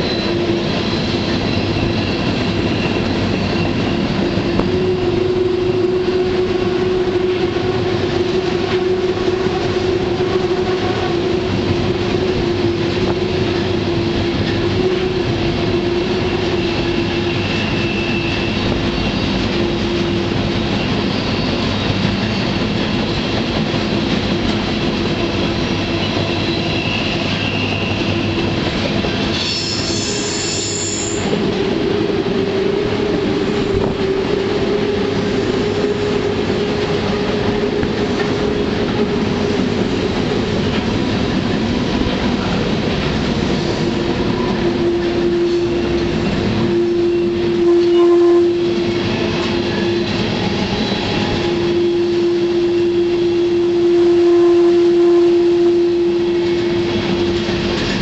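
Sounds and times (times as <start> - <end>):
train wheel squeal: 0.0 - 58.0
train wheels rumbling on rails: 0.0 - 58.0.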